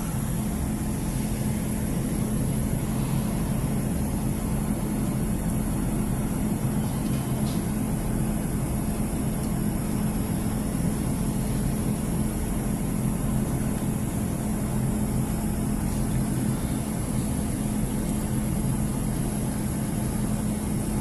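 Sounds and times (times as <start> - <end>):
low diesel engine hum: 0.0 - 21.0.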